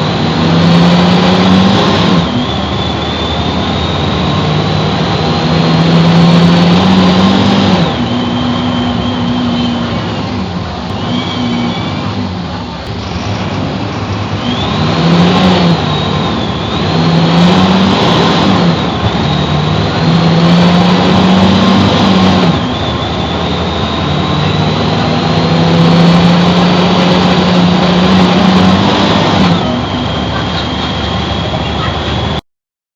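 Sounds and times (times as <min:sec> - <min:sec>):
bus diesel engine accelerating: 0:00.0 - 0:32.4
high whine: 0:00.0 - 0:32.4.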